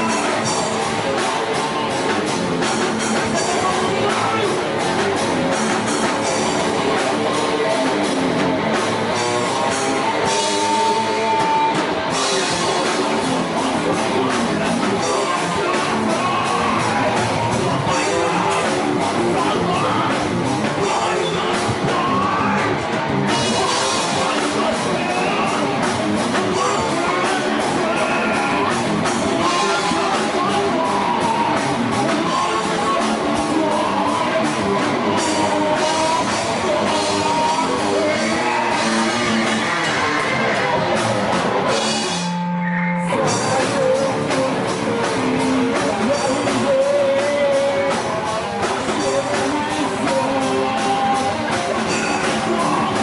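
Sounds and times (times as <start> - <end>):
drums: 0.0 - 53.0
electric guitar: 0.0 - 53.0
person singing and shouting: 0.0 - 53.0.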